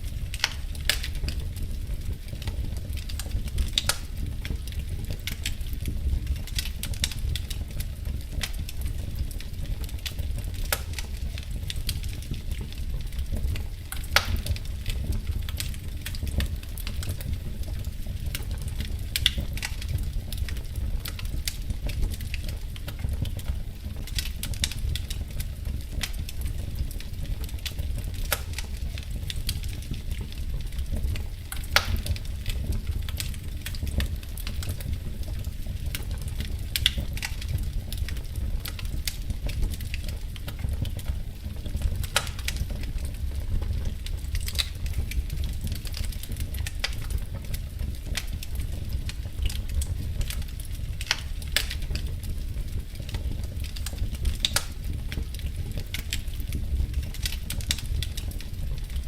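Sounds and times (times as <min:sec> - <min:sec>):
wood fire crackling: 0:00.0 - 0:59.0
sharp pops of fire: 0:00.2 - 0:59.0.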